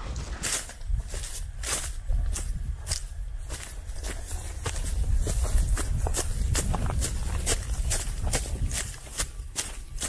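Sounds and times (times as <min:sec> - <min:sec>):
footsteps crunching dry leaves: 0:00.0 - 0:10.0.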